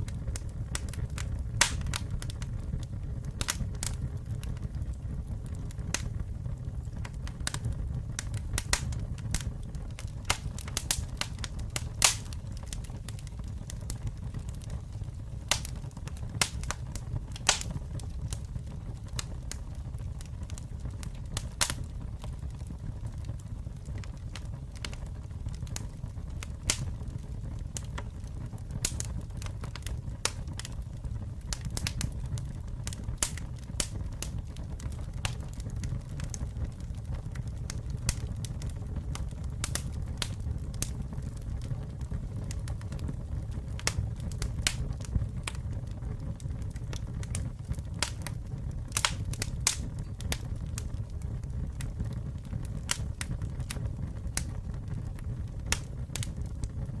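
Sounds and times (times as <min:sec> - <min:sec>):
low rumble of flames: 0:00.0 - 0:57.0
wood crackling and popping: 0:00.0 - 0:57.0.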